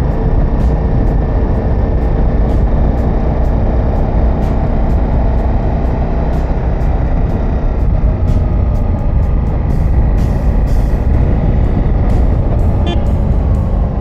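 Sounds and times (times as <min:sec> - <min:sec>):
motorcycle engine: 0:00.0 - 0:14.0
wind rush: 0:00.0 - 0:14.0.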